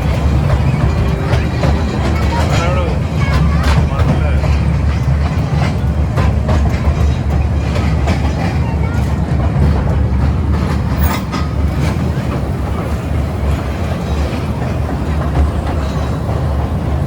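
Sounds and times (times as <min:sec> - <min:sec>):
toy train rumbling on rails: 0:00.0 - 0:17.0.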